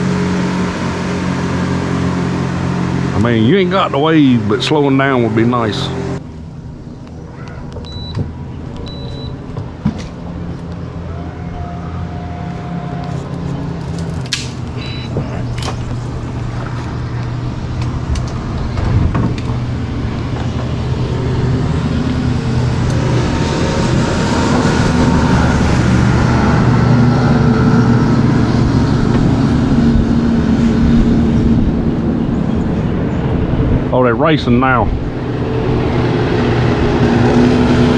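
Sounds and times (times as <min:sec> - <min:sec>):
motorboat engines droning: 0:00.0 - 0:37.9.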